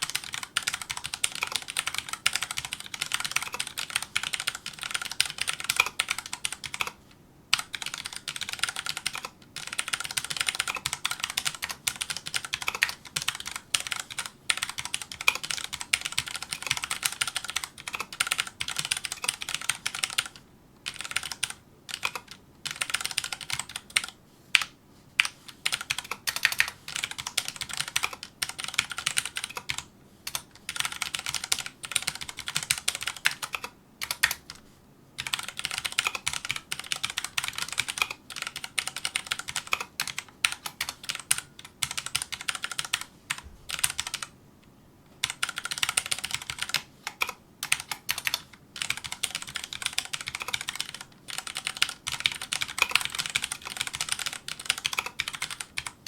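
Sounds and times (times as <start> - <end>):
fast typing on mechanical keyboard: 0.0 - 34.6, 35.2 - 44.3, 45.2 - 56.0.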